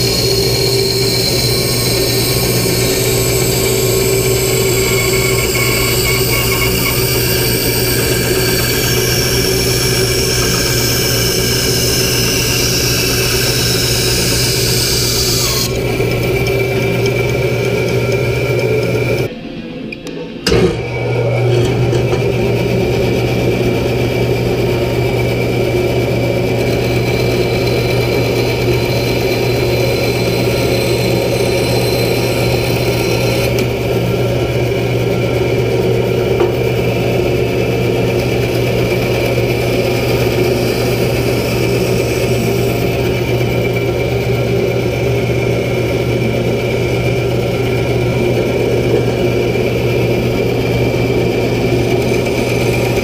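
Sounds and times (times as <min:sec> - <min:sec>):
bandsaw humming: 0:00.0 - 0:19.4, 0:20.0 - 0:53.0.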